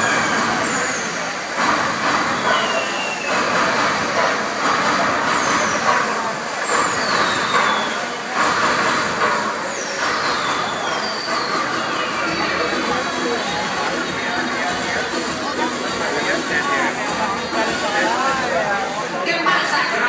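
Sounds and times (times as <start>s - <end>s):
hissing whooshes over loudspeakers: 0.0s - 20.0s
murmuring crowd: 0.0s - 20.0s.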